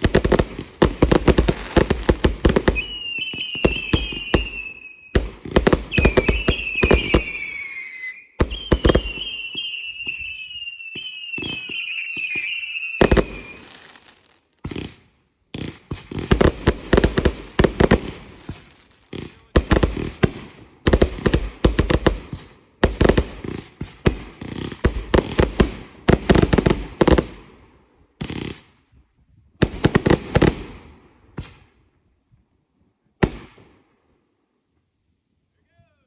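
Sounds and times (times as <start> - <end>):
fireworks bangs and crackle: 0.0 - 27.6, 28.2 - 28.8, 29.6 - 31.8, 33.2 - 33.8.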